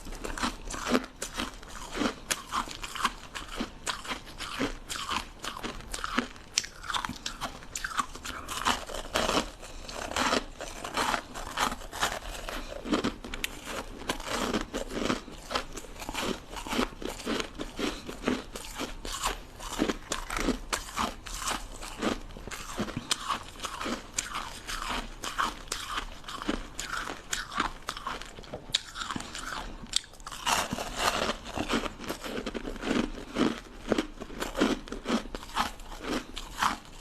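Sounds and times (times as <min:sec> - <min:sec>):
ice being bitten and chewed: 0:00.0 - 0:37.0.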